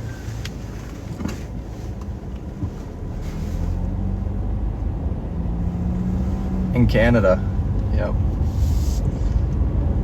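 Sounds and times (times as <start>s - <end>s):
car engine rumbling: 0.0s - 10.0s
road noise: 0.0s - 10.0s.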